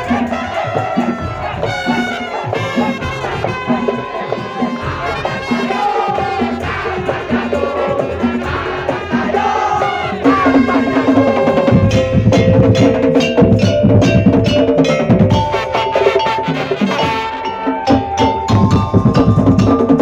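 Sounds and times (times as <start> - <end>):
held wind instrument melody: 0.0 - 20.0
wood-block and drum percussion: 0.0 - 20.0.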